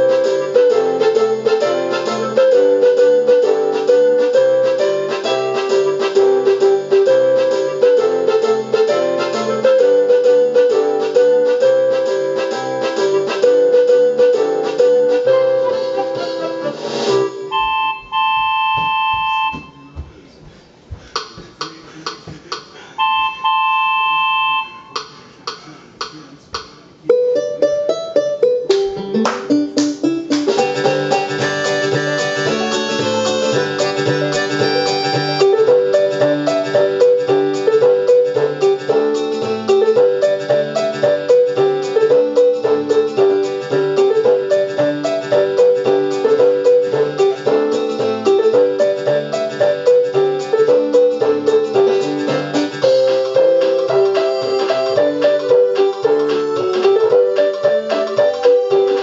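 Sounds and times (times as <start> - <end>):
electronic keyboard playing: 0.0 - 20.0, 27.0 - 59.0.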